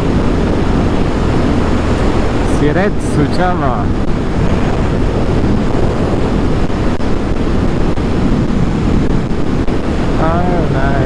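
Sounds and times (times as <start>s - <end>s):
motorcycle running: 0.0s - 11.0s
road noise: 0.0s - 11.0s
wind buffeting microphone: 0.0s - 11.0s.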